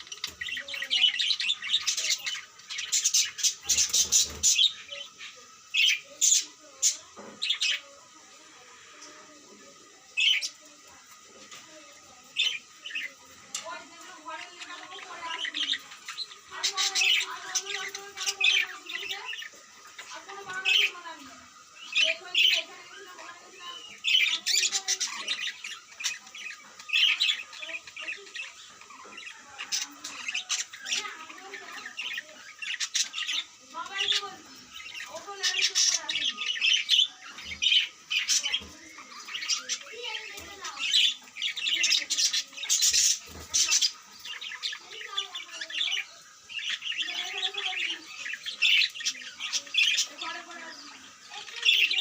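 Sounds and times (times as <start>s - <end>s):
high-pitched bird calls: 0.0s - 10.9s, 11.8s - 52.0s.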